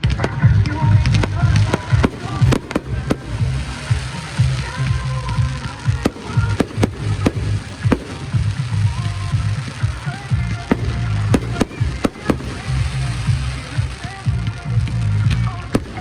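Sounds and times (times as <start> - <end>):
fireworks bangs: 0.0 - 16.0
loud music with heavy bass: 0.0 - 16.0.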